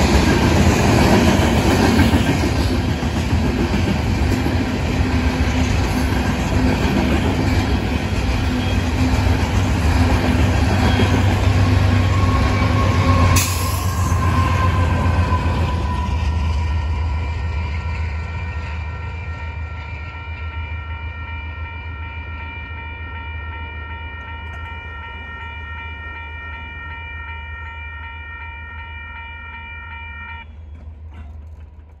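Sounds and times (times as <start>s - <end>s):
train rumbling: 0.0s - 29.7s, 30.4s - 32.0s.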